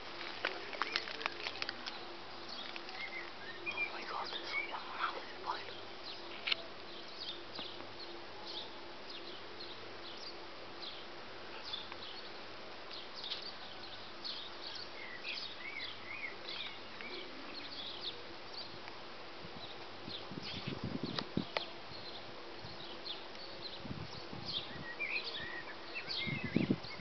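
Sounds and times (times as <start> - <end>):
rising and falling birdsong: 0.7 - 27.0.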